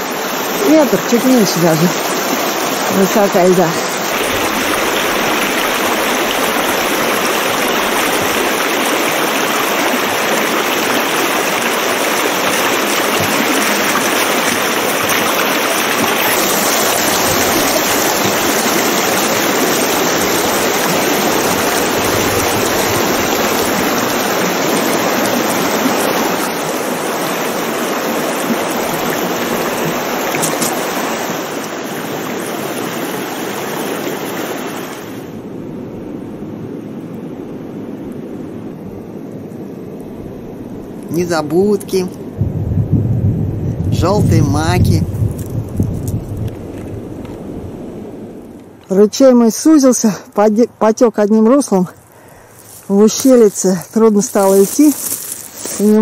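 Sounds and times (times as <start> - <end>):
river rushing over stones: 0.0 - 35.7, 44.2 - 56.0.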